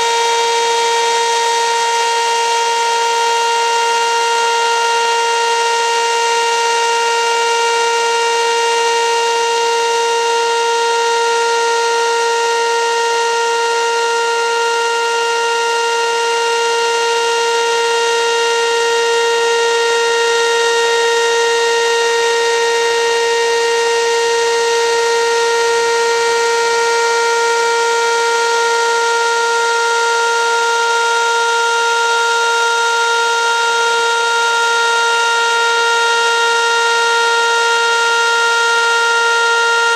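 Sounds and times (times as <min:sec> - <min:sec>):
steady warning siren tone: 0:00.0 - 0:39.9.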